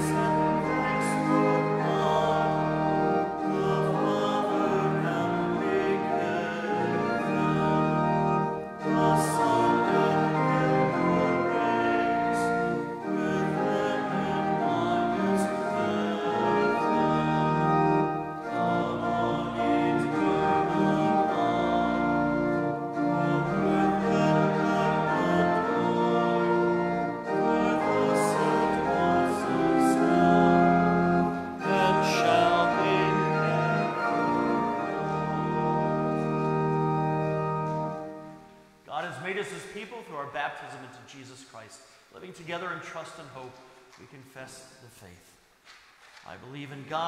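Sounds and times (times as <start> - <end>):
congregation singing a hymn: 0.0 - 39.6
church organ: 0.0 - 45.1.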